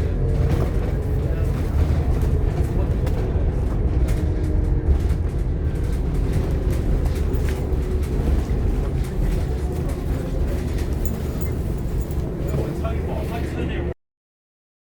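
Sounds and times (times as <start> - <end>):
bus diesel engine rumble: 0.0 - 14.0
bodywork clicks and rattles: 0.2 - 12.9.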